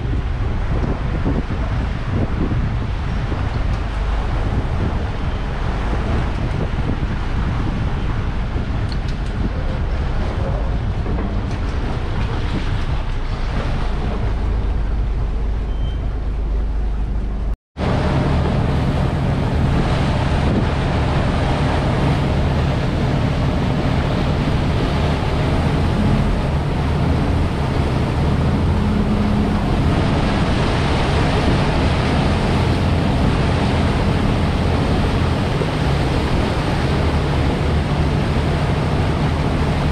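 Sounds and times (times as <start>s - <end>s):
boat diesel engine droning: 0.0s - 39.9s
rushing water: 0.0s - 39.9s
wind on microphone: 0.0s - 39.9s.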